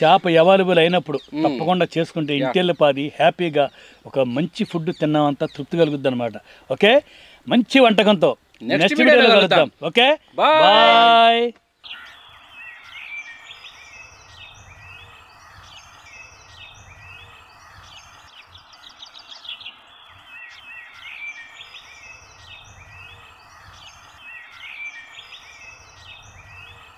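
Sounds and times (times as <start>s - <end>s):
birds chirping and twittering: 0.0s - 9.8s, 10.6s - 26.9s
background hiss: 0.0s - 26.9s.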